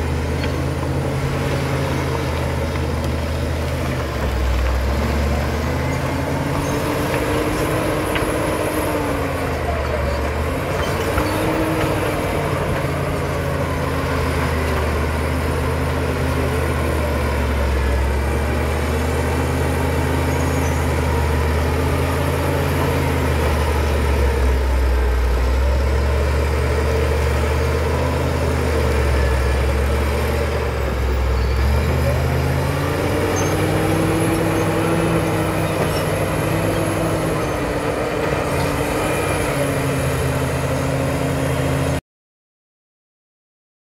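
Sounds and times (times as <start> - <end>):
bulldozer diesel engine: 0.0 - 42.0.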